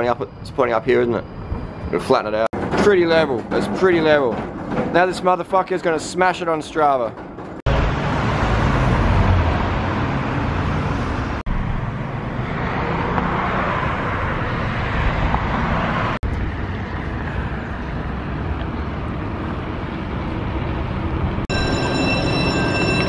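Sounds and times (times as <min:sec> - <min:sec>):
rumbling road vehicle noise: 0:00.0 - 0:23.0.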